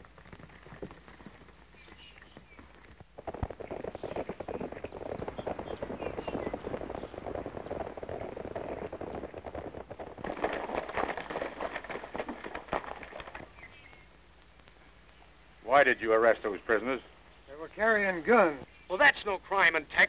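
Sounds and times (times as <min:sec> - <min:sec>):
horses galloping on dirt road: 0:00.0 - 0:20.0.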